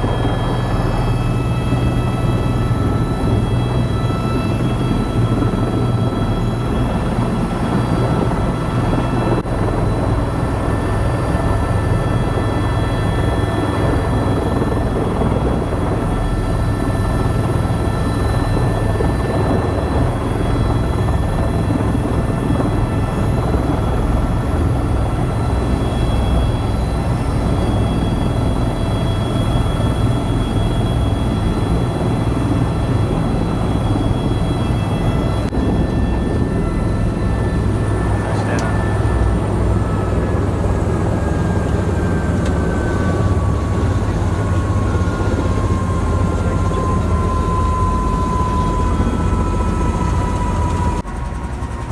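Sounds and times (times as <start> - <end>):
helicopter rotor and engine drone: 0.0 - 51.9.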